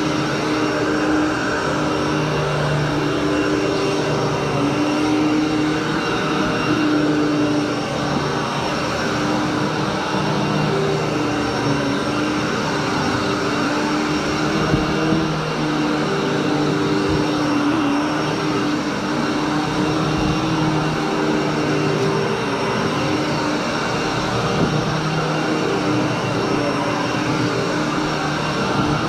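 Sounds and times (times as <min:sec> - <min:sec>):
vacuum cleaner running over carpet: 0:00.0 - 0:29.0.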